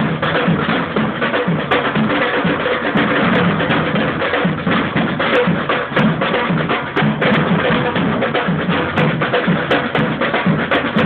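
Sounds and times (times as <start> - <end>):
samba band drumming: 0.0 - 11.0.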